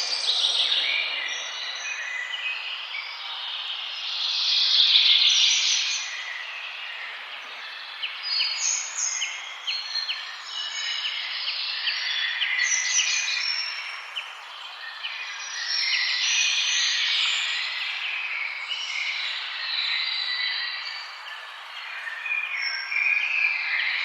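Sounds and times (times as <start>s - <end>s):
songbirds singing and chirping: 0.0s - 24.0s.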